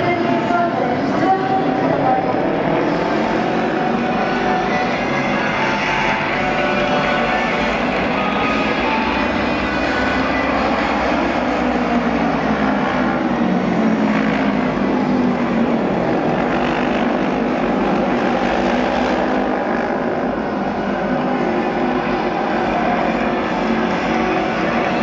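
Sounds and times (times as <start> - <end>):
racing motorcycles droning: 0.0 - 25.0.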